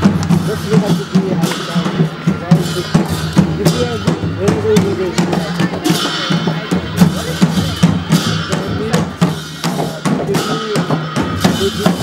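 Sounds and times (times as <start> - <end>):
barrel drums beaten in rhythm: 0.0 - 12.0.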